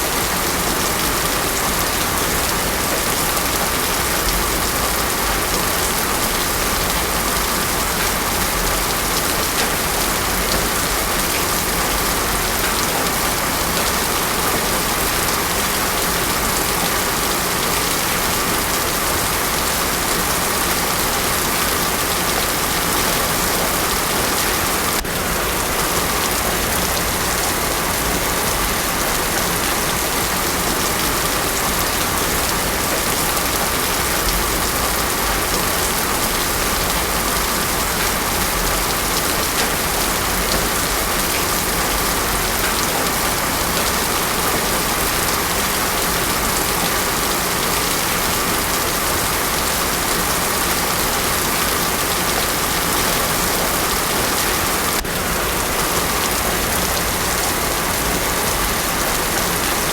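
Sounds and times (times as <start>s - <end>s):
heavy rain on a road: 0.0s - 59.9s.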